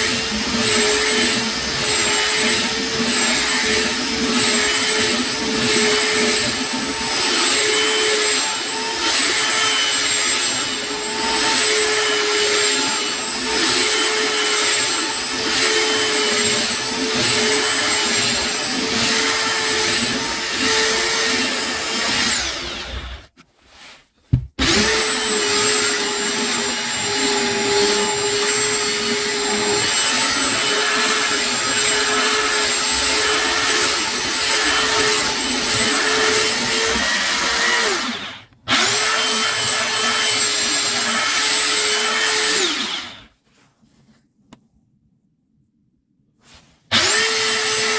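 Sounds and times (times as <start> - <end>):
power sander whining: 0.0 - 23.3, 24.6 - 43.3, 46.9 - 47.9.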